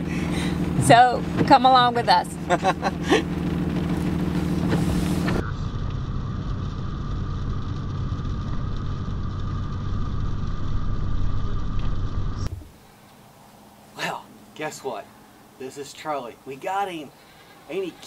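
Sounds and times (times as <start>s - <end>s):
engine and road noise in cab: 0.0s - 18.0s.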